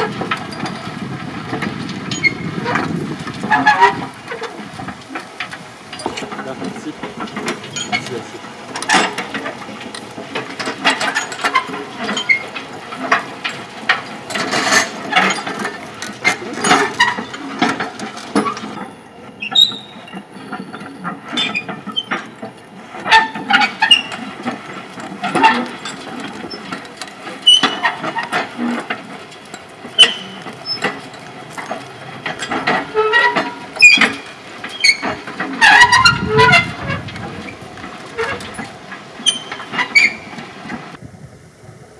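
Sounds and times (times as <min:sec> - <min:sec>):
metal roller clanking over soil: 0:00.0 - 0:41.0.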